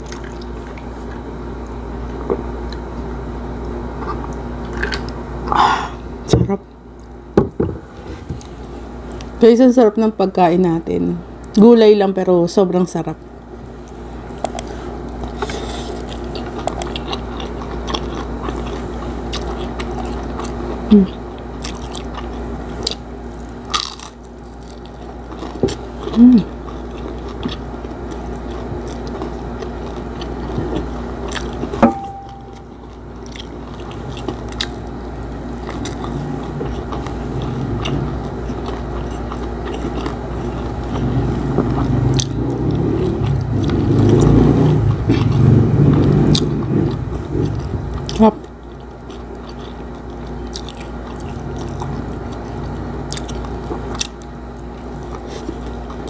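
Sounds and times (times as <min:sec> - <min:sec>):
person chewing food: 0:00.0 - 0:05.7, 0:13.7 - 0:56.0.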